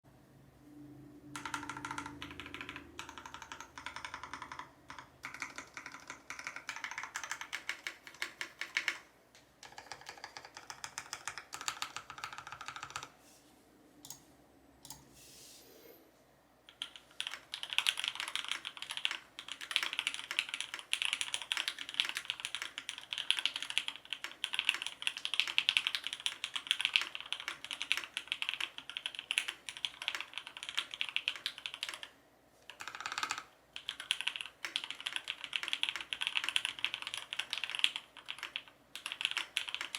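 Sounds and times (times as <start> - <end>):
mechanical keyboard typing: 1.3 - 13.1, 16.7 - 39.9.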